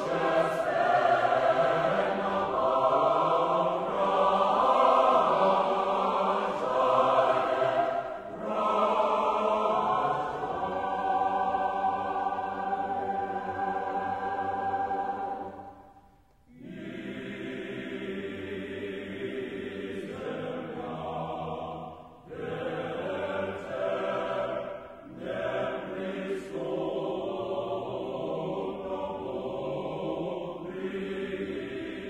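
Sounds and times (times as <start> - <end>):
choir chanting in harmony: 0.0 - 32.0.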